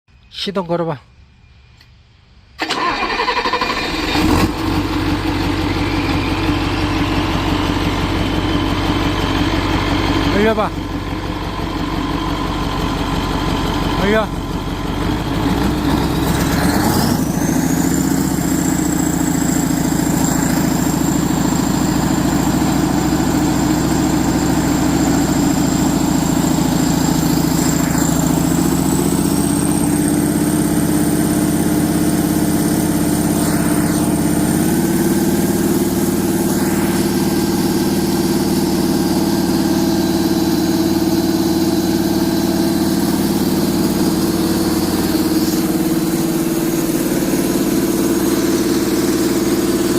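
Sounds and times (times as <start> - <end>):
diesel engine revving: 2.6 - 49.9
high whine: 4.5 - 13.2, 14.0 - 49.9.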